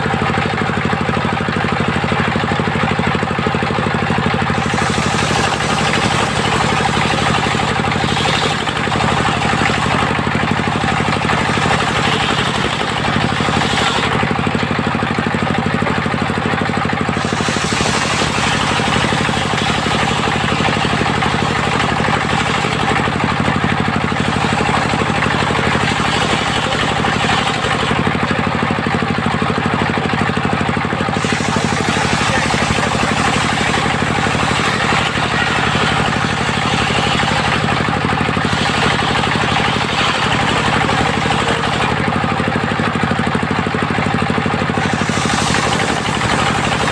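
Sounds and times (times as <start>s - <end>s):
engine-driven circular saw running: 0.0s - 46.9s.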